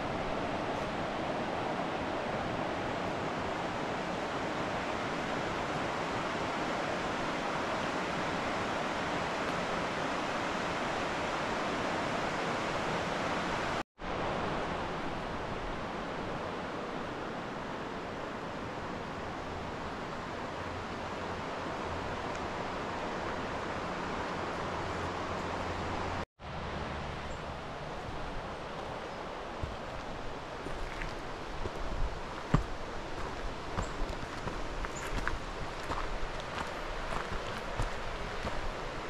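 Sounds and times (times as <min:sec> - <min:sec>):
flowing river water: 0:00.0 - 0:39.0.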